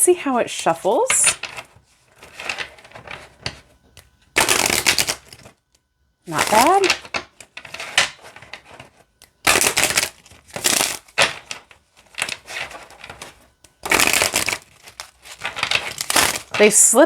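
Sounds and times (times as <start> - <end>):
cards being shuffled: 0.9 - 5.6, 6.3 - 16.8.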